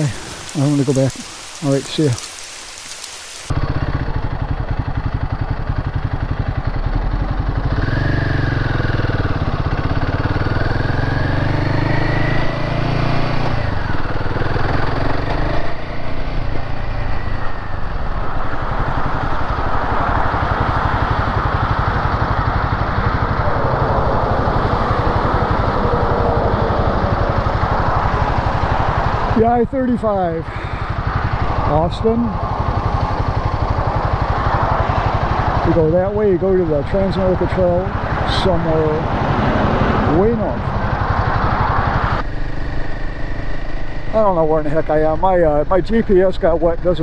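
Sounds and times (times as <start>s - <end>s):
wind and road noise: 0.0s - 47.0s
motorcycle engine running: 3.5s - 47.0s.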